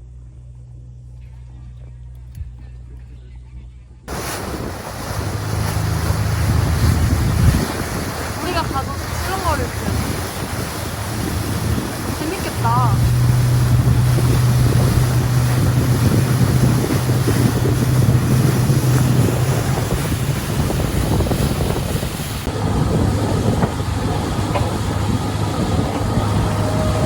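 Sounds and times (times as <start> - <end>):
boat engine droning: 4.1 - 27.0
rushing water: 4.1 - 27.0
wind buffeting microphone: 4.1 - 27.0.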